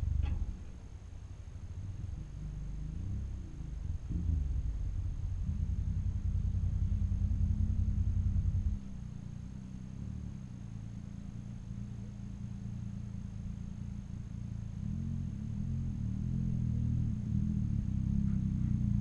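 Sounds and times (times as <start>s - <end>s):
motorcycle approaching rumble: 0.0s - 19.0s
loud motorcycle engine: 3.4s - 19.0s.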